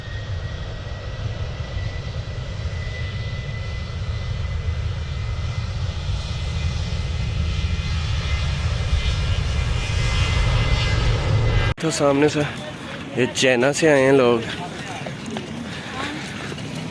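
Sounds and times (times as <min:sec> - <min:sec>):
airplane engines whining: 0:00.0 - 0:16.9.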